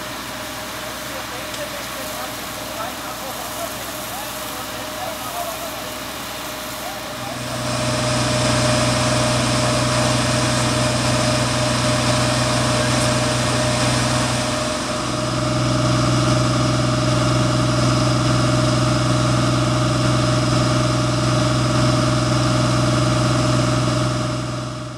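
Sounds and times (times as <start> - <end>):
fire engine engine running: 0.0 - 24.9
thin steady whine: 0.0 - 24.9.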